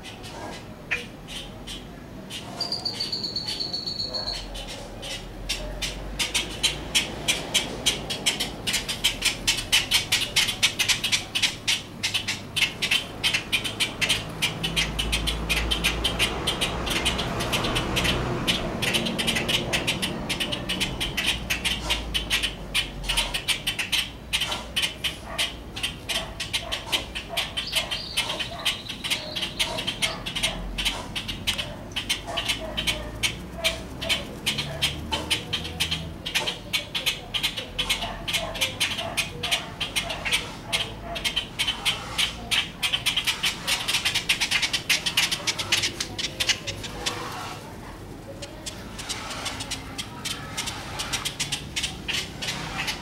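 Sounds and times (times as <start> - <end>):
flock of birds harsh calls: 0.0 - 53.0.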